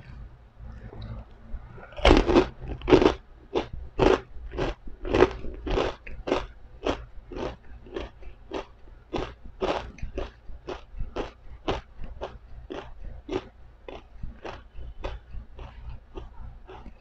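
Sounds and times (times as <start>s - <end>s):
crunchy food being chewed: 1.8s - 17.0s.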